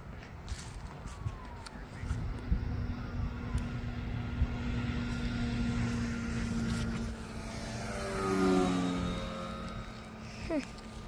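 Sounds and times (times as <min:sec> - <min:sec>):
model airplane propeller drone: 0:00.0 - 0:11.0.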